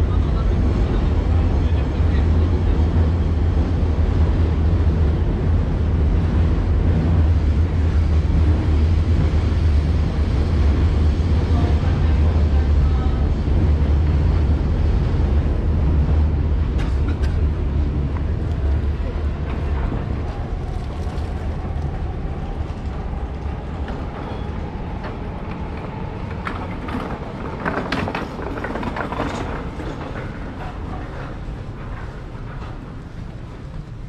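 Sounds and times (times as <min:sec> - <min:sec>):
passers-by voices: 0:00.0 - 0:09.4, 0:10.5 - 0:34.0
street noise: 0:00.0 - 0:34.0
train rumbling on elevated railway: 0:00.0 - 0:34.0.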